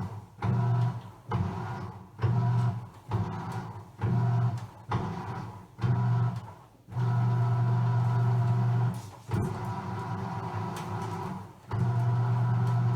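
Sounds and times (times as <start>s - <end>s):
washing machine motor hum: 0.0s - 12.9s.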